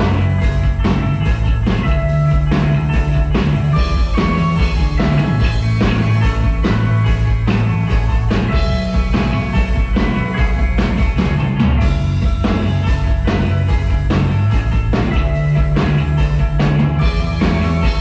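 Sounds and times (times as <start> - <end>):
rock band playing: 0.0 - 18.0
steady drum beat: 0.0 - 18.0.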